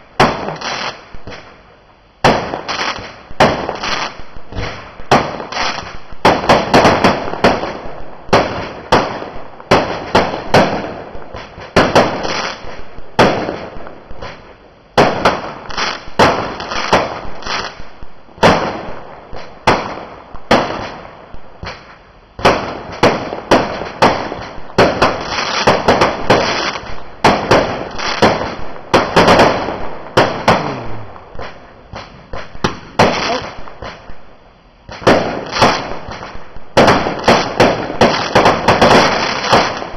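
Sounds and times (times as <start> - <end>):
fireworks bangs: 0.0 - 39.9
fireworks crackling and fizzing: 0.0 - 39.9.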